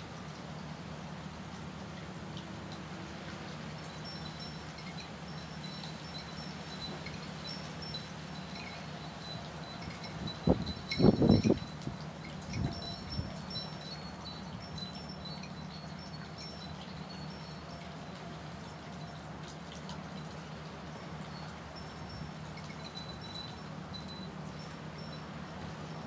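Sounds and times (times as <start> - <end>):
wind chimes tinkling: 3.7 - 26.0.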